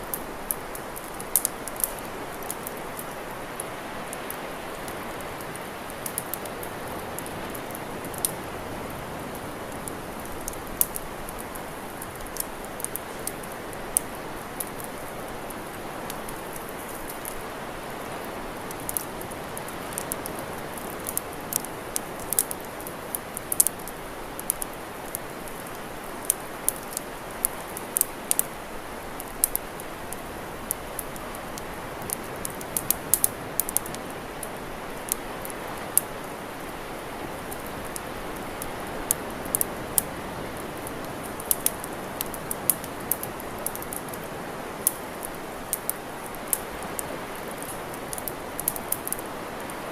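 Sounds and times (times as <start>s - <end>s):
campfire crackling and popping: 0.0s - 49.9s
steady fire hiss: 0.0s - 49.9s.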